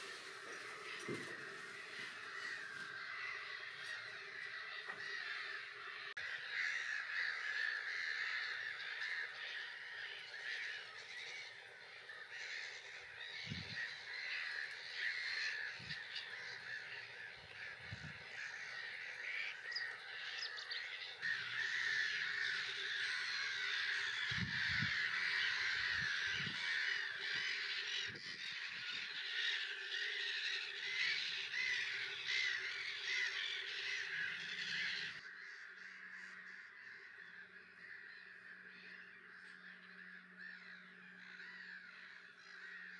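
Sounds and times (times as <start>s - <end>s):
gulls calling: 0.0s - 42.9s.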